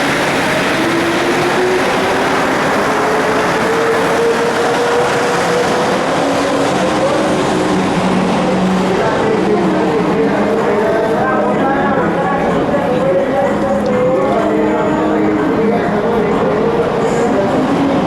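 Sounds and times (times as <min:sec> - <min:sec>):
metro train rumbling: 0:00.0 - 0:18.0.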